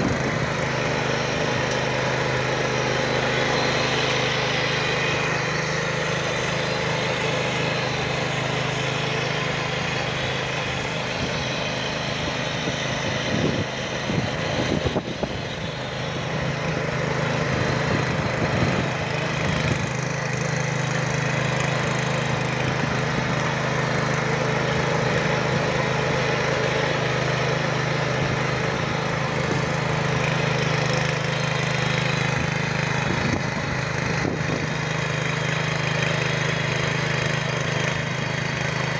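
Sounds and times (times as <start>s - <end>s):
rotary tiller engine running: 0.0s - 38.9s
tines churning soil: 0.0s - 38.9s.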